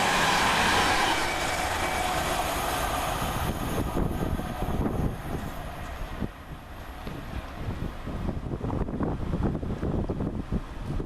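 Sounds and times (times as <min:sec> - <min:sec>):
diesel train passing: 0:00.0 - 0:11.0.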